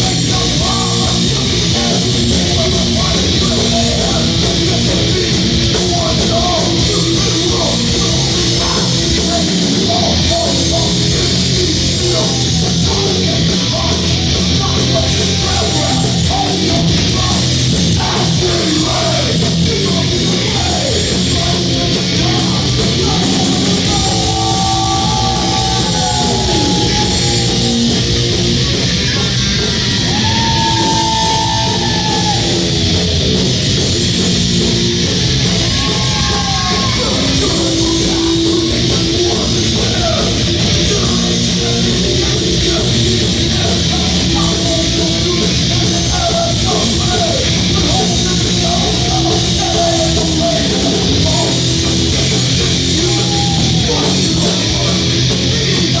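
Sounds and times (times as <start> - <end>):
bass and drums: 0.0 - 56.0
distorted electric guitars: 0.0 - 56.0
thrash band playing live: 0.0 - 56.0.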